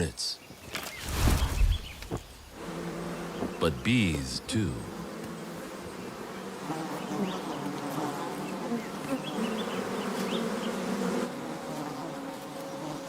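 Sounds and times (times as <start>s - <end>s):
bees buzzing: 1.0s - 13.0s.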